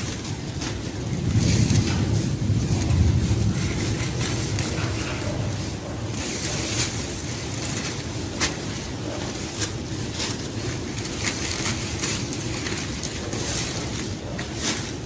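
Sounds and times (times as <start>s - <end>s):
dry plants rustling and snapping: 0.0s - 15.0s
low outdoor rumble: 0.0s - 15.0s.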